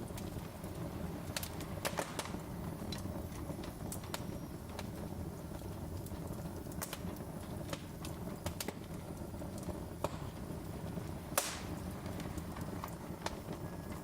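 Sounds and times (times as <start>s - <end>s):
low rumble of burning logs: 0.0s - 14.0s
wood fire crackling: 0.0s - 14.0s.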